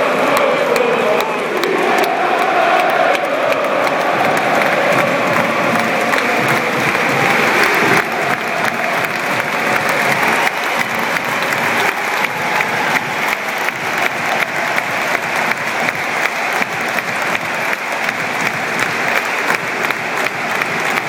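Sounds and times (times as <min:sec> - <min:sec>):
stadium crowd clapping and cheering: 0:00.0 - 0:21.0.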